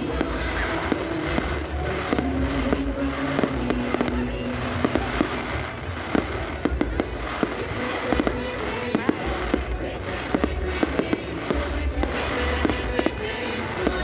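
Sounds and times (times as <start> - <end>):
firework bangs: 0.0 - 14.0.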